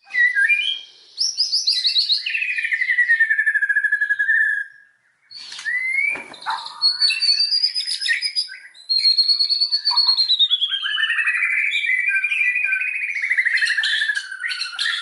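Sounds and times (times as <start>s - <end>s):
bird singing trills and whistles: 0.0s - 15.0s.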